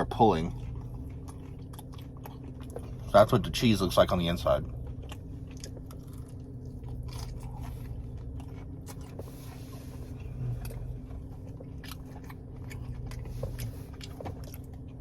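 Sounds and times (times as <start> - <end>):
person chewing crunchy food: 0.2 - 3.4, 4.5 - 15.0.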